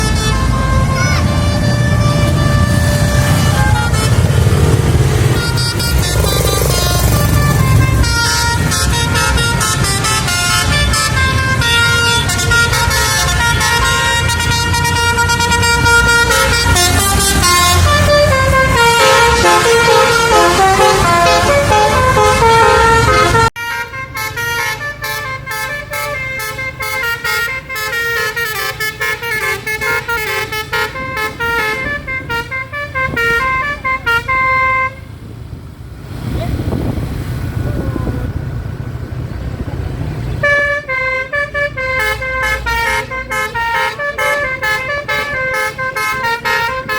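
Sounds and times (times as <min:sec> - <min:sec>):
multi-tone bus horn melody: 0:00.0 - 0:35.3, 0:40.3 - 0:46.9.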